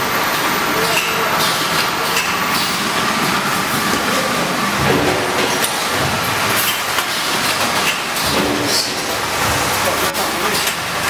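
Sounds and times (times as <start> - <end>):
packaging machine running: 0.0 - 11.0.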